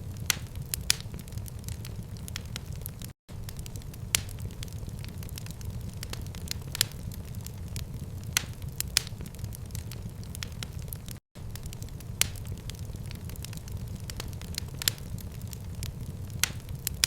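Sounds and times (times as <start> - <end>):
fire crackling with pops: 0.0 - 17.0.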